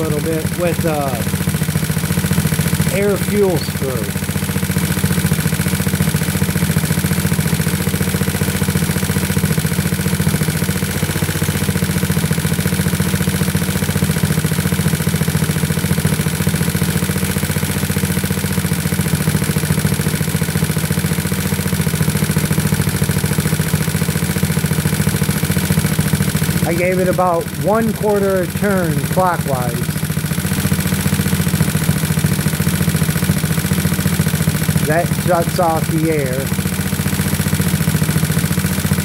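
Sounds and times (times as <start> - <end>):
scooter engine idling: 0.0 - 39.0.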